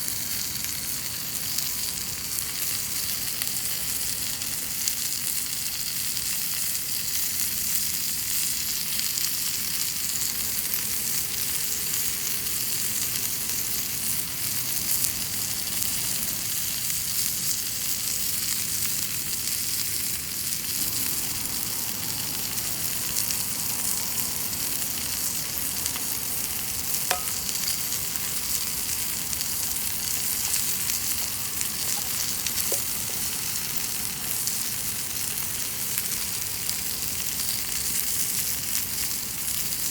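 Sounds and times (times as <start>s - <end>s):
chicken sizzling in a skillet: 0.0s - 39.9s.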